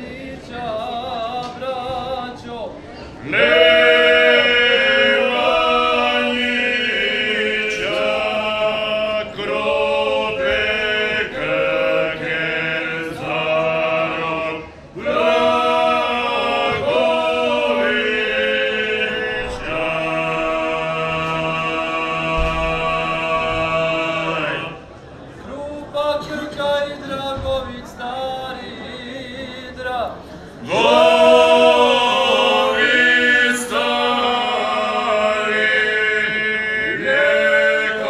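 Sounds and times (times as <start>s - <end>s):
male vocal group singing a cappella: 0.0s - 24.9s, 25.5s - 38.0s.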